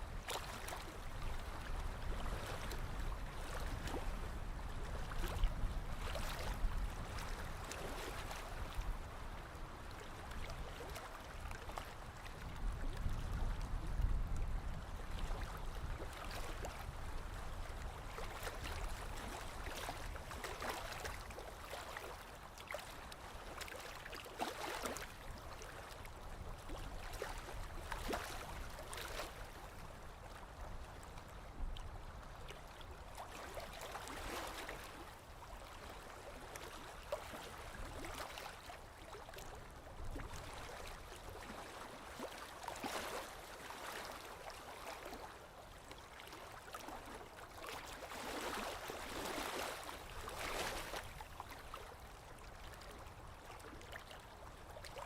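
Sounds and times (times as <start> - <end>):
waves lapping on shore: 0.0 - 55.0.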